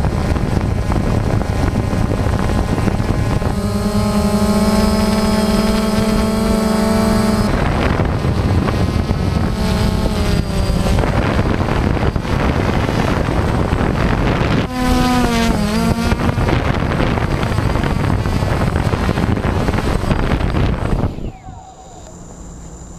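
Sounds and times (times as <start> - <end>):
drone propellers buzzing: 0.0 - 22.9
wind noise on microphone: 0.0 - 22.9.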